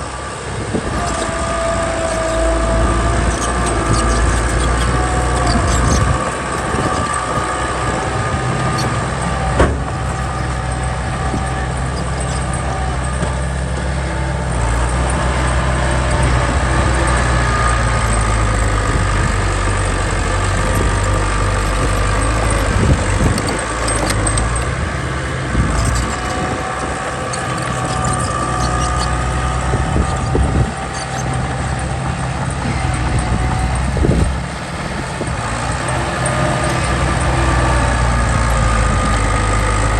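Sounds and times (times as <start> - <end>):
heavy machinery engine drone: 0.0 - 39.9.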